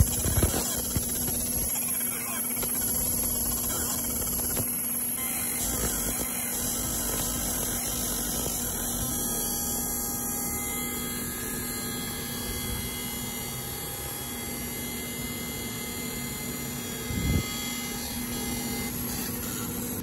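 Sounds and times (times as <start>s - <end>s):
laser marking machine humming: 0.0s - 20.0s.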